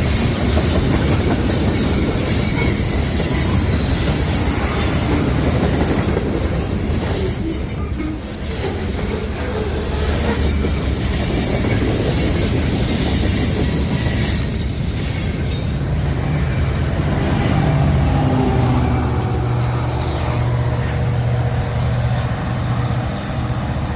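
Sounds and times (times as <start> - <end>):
high wheel squeal: 0.0 - 23.5
train railcars rumbling on track: 0.0 - 23.9.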